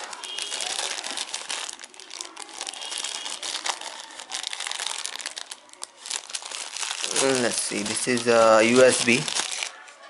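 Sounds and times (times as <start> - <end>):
wrapping crinkling and rustling: 0.0 - 10.0.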